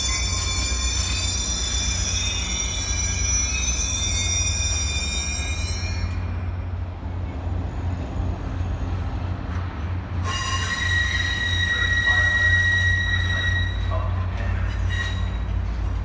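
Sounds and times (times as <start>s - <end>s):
train wheels squealing on rails: 0.0s - 8.0s, 10.2s - 16.0s
low train rumble: 0.0s - 16.0s.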